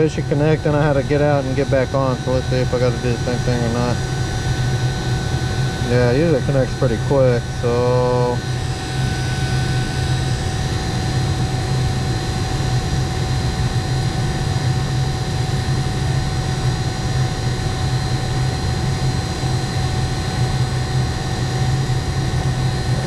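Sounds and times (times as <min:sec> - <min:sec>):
faint steady whine: 0:00.0 - 0:23.0
vacuum pump droning: 0:00.0 - 0:23.0.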